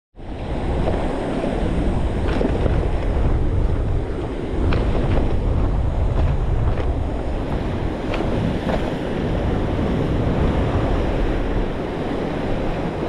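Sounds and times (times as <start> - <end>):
surf washing against rocks: 0.2 - 13.0
wind buffeting microphone: 0.2 - 13.0.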